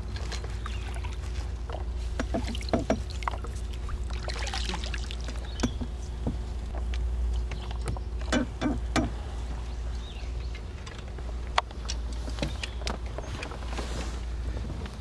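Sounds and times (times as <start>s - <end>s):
water sloshing around boat: 0.0s - 15.0s.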